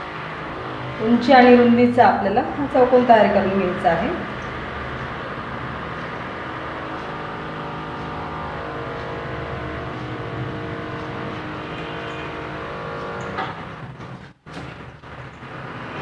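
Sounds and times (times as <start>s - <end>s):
motor-like hum: 0.0s - 16.0s.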